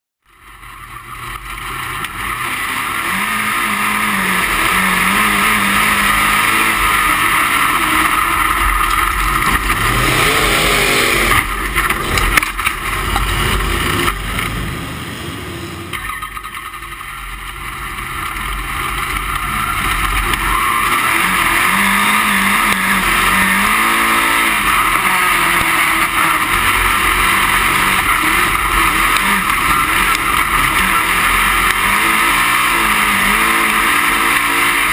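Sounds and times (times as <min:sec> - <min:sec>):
race car engine roaring: 0:00.2 - 0:34.9.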